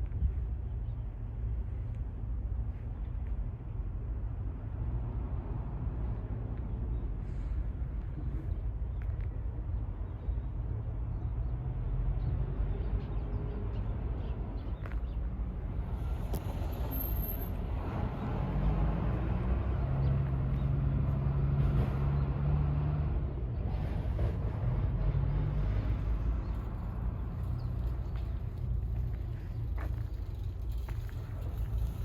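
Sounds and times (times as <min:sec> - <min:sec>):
engine running with low hum: 0:00.0 - 0:32.0.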